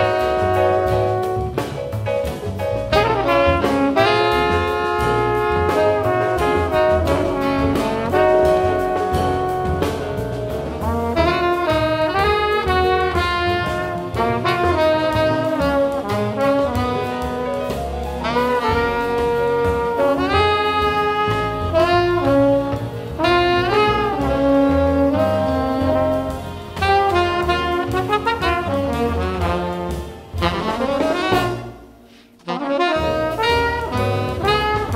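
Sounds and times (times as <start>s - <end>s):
tenor saxophone: 0.0s - 1.7s, 2.9s - 10.2s, 10.9s - 34.9s
trumpet: 0.0s - 1.8s, 2.8s - 34.9s
double bass: 0.0s - 34.9s
drums: 0.0s - 34.9s.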